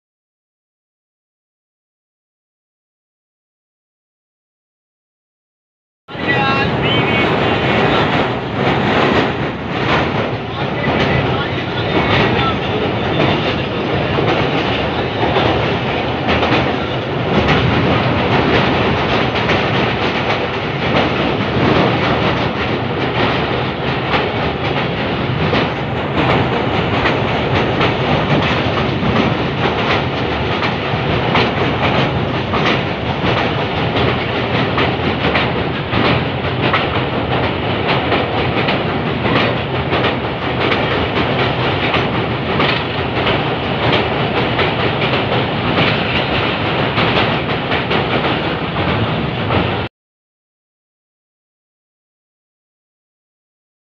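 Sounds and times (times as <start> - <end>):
train rushing noise: 6.1 - 49.9
wheels clattering over rails: 6.2 - 49.9.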